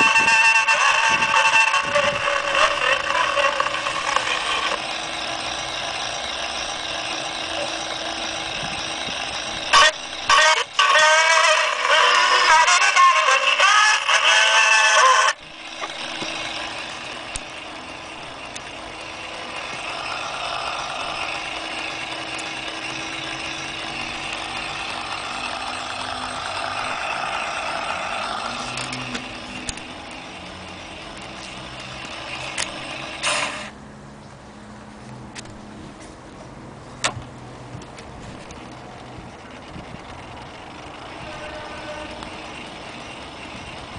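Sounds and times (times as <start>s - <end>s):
gramophone motor whirring: 0.0s - 33.9s, 36.7s - 43.9s.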